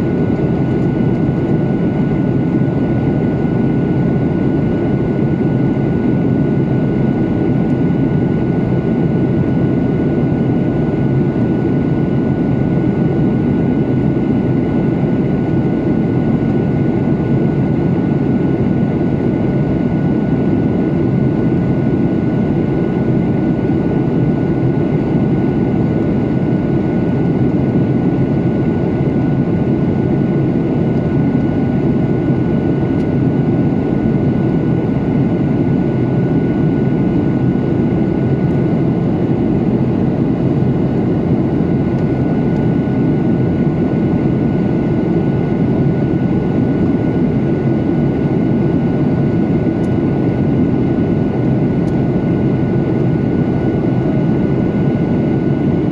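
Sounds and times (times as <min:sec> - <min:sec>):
jet engines rumble: 0:00.0 - 0:55.9.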